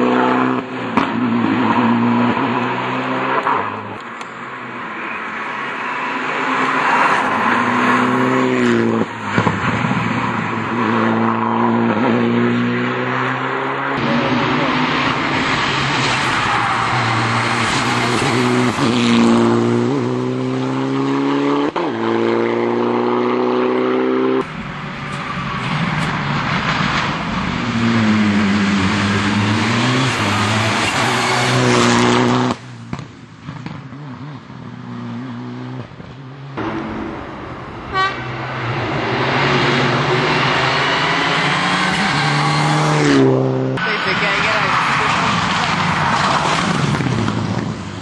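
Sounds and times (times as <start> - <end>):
rally car engine at full throttle: 0.0 - 48.0.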